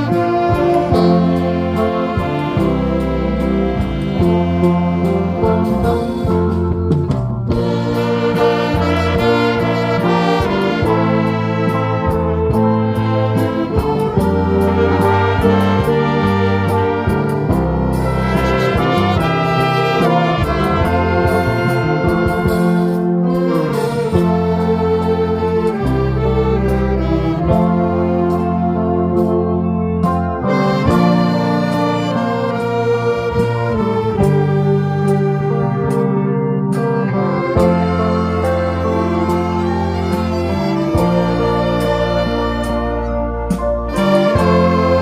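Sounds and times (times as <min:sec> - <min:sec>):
bass line: 0:00.0 - 0:45.0
saxophone lead melody: 0:00.0 - 0:45.0.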